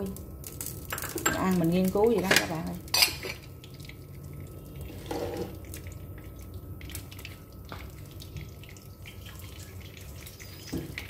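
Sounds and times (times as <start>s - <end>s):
oil crackling in frying pan: 0.0s - 11.0s.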